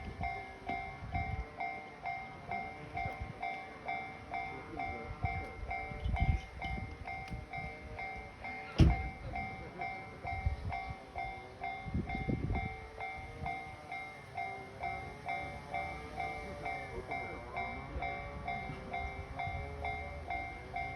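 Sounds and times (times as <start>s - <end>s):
level-crossing alarm dinging: 0.0s - 20.9s
train rumbling and clacking: 0.0s - 20.9s.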